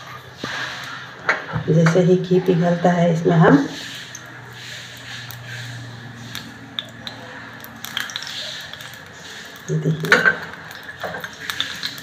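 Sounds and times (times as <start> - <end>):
ghee sizzling with small pops: 0.0 - 12.0.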